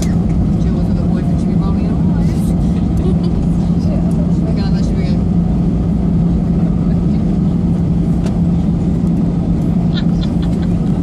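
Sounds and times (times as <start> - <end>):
airliner engines and cabin hum: 0.0 - 11.0
constant low drone: 0.0 - 11.0.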